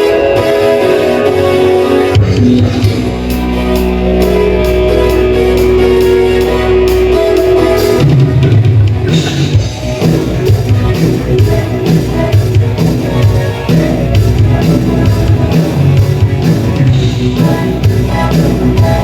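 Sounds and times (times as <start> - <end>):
bass guitar: 0.0 - 19.0
drum kit rock beat: 0.0 - 19.0
guitar chords: 0.0 - 19.0.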